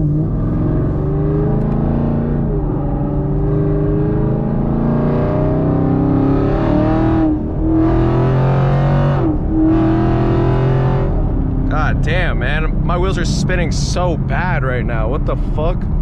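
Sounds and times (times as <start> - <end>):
car engine revving hard: 0.0 - 15.7.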